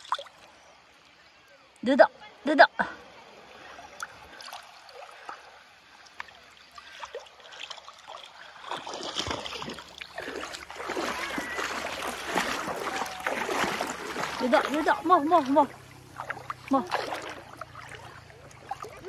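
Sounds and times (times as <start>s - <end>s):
seawater splashing around feet: 3.2s - 19.0s.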